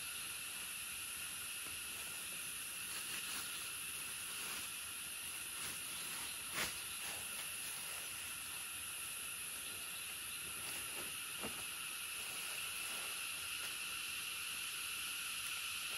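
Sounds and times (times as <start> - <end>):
insects droning: 0.0 - 15.9.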